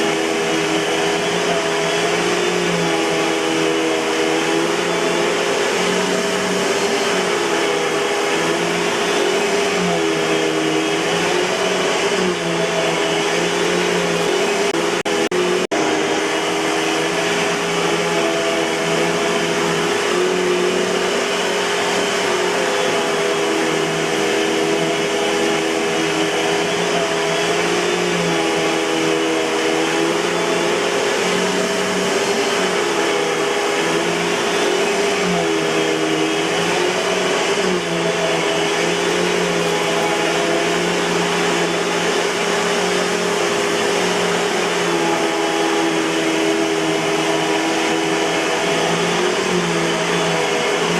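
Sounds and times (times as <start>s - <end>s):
vacuum cleaner motor whine: 0.0s - 50.9s.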